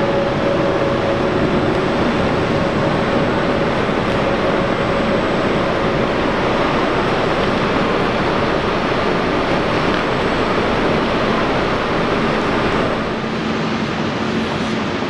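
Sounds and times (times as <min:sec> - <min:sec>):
electric train rushing noise: 0:00.0 - 0:15.0.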